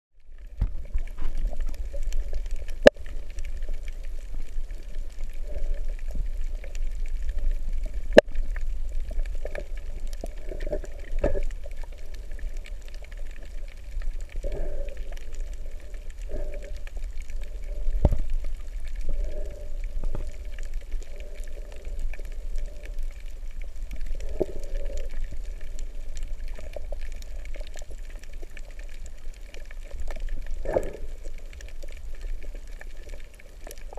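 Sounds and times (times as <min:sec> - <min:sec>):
muffled underwater rumble: 0:00.1 - 0:33.9
water gurgles: 0:00.2 - 0:33.9.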